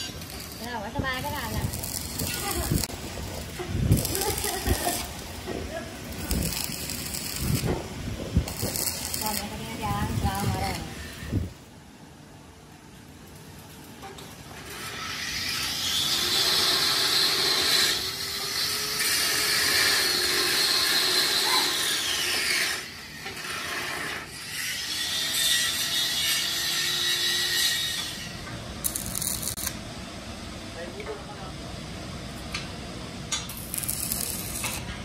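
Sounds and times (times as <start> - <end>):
power tool working steel: 0.0 - 11.6, 14.6 - 29.8, 33.3 - 35.0.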